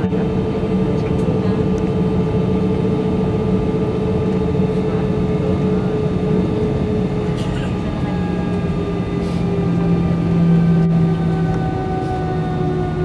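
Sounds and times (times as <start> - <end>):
airplane cabin engine drone: 0.0 - 13.0
constant hum: 0.0 - 13.0.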